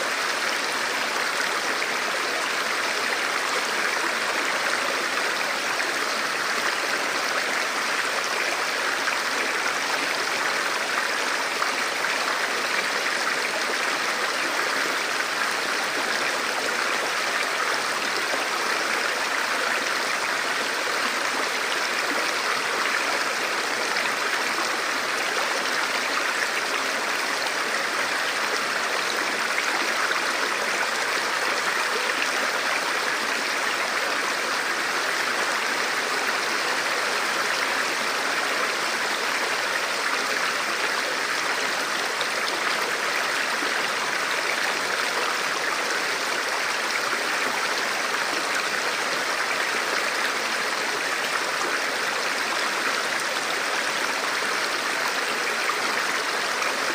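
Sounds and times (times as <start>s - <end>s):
river flowing over rocks: 0.0s - 56.9s.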